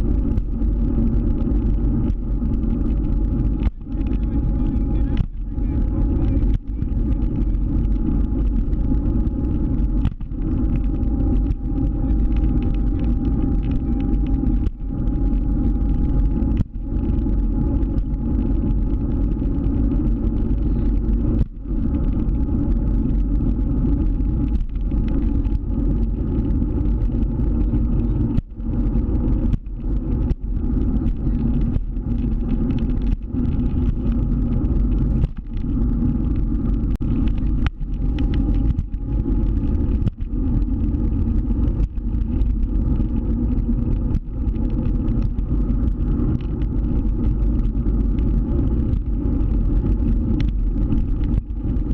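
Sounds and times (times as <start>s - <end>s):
faint steady whine: 0.0s - 51.9s
scooter motor rumble: 0.0s - 51.9s
wind noise on microphone: 0.0s - 51.9s.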